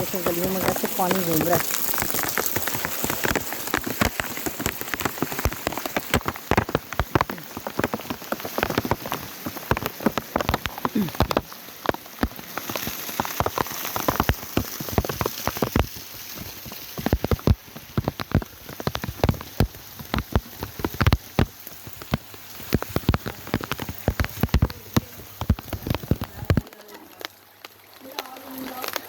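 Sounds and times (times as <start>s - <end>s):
close raindrops splashing: 0.0s - 29.0s
heavy rain hissing: 0.0s - 29.0s.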